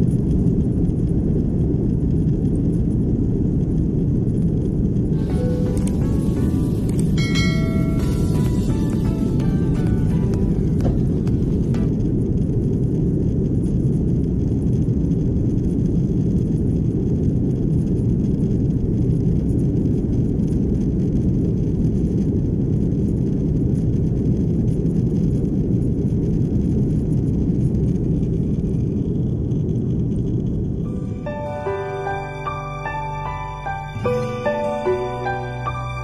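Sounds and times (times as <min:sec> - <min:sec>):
airliner engines rumbling in cabin: 0:00.0 - 0:36.0.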